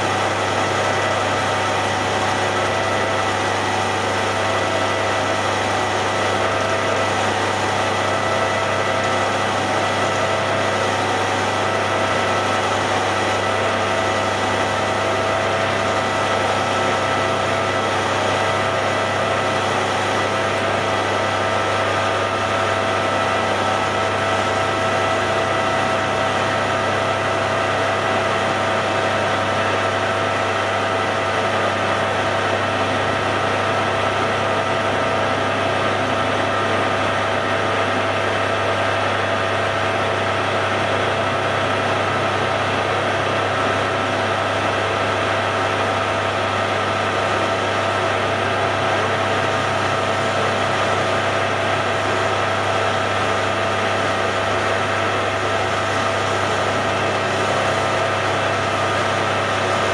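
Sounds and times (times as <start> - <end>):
metal lathe running: 0.0 - 59.9.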